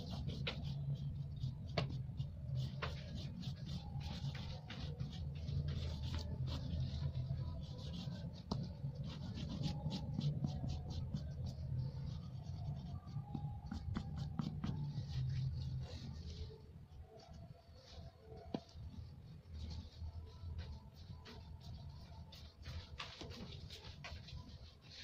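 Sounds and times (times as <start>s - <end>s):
oil pastel scratching on paper: 0.0s - 25.0s.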